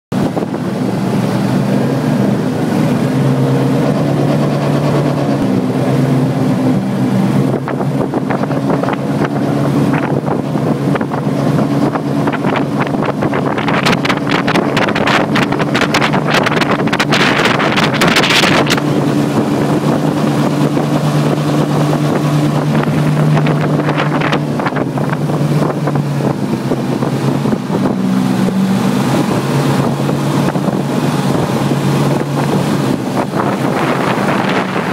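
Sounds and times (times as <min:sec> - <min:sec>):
outboard motor running: 0:00.1 - 0:34.9
wind buffeting microphone: 0:00.1 - 0:34.9.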